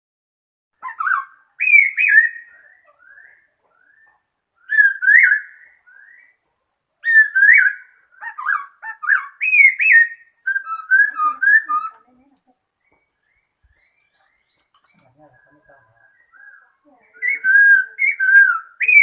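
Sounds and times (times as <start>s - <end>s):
songbird singing: 0.8s - 19.0s.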